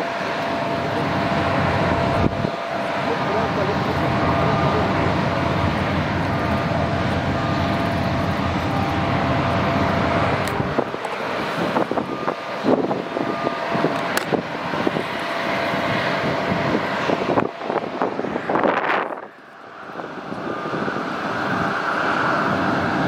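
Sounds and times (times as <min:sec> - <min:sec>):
jet engines whine and rumble: 0:00.0 - 0:23.0.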